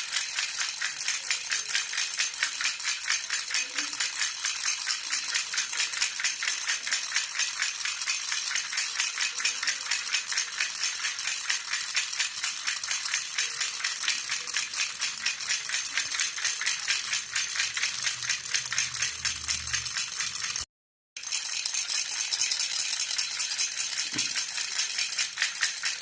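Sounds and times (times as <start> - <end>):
baby rattle shaken: 0.0 - 26.0.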